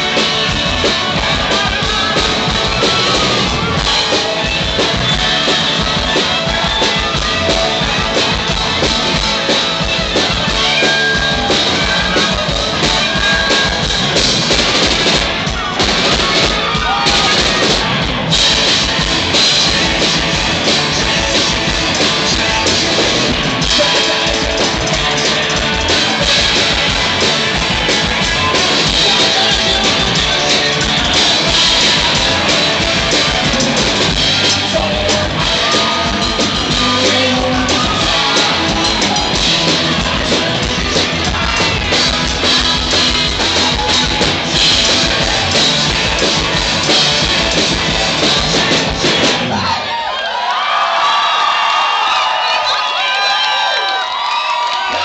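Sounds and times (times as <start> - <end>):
rock band playing live: 0.0 - 50.0
crowd cheering and whooping: 0.0 - 55.0.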